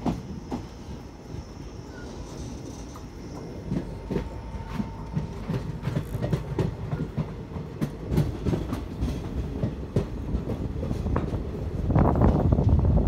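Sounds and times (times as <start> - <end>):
train wheels clattering over rail joints: 0.0 - 13.0.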